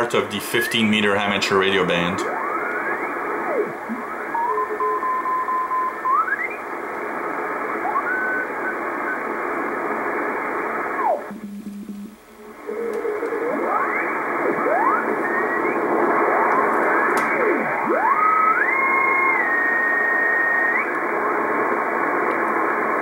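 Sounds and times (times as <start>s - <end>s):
radio band hiss: 0.0s - 23.0s.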